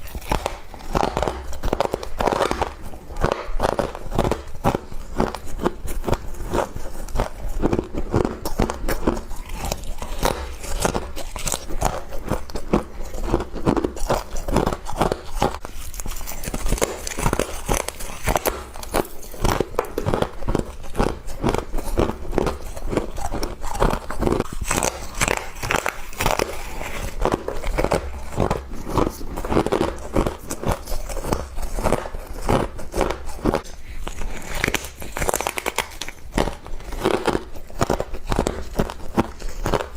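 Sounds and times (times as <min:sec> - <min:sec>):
crunching of chewed frost: 0:00.0 - 0:39.9.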